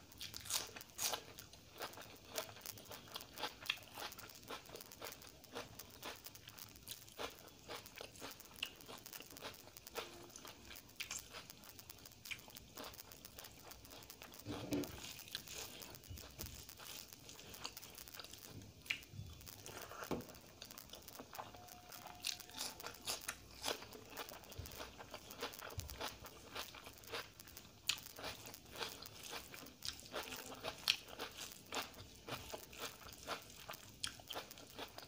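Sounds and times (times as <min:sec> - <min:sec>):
chewing: 0:00.2 - 0:35.0.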